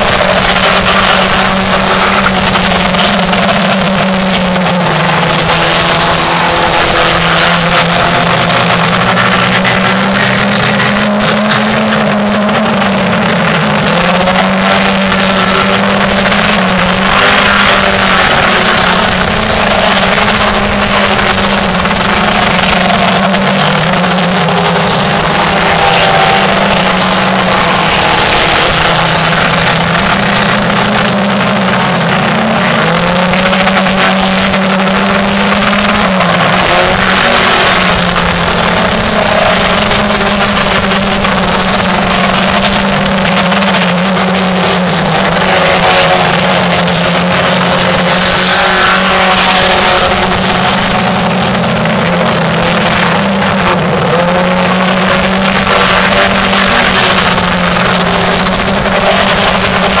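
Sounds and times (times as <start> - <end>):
race car engines: 0.0 - 60.0.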